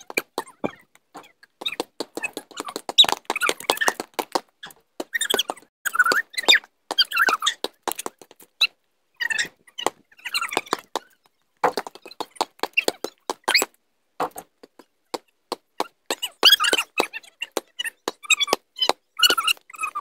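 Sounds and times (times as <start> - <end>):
basketball dribbling on concrete: 0.0 - 6.2, 6.9 - 8.4, 9.8 - 11.0, 11.6 - 19.6
sneakers squeaking: 0.0 - 20.0.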